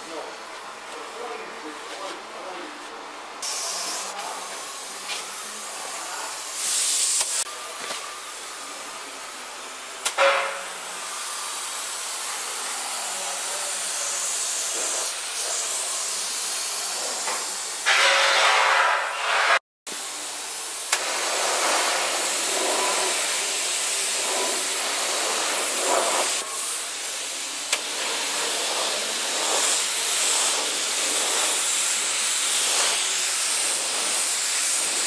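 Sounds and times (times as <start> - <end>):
spray gun hissing: 3.4 - 7.5, 10.0 - 19.4, 20.0 - 35.0.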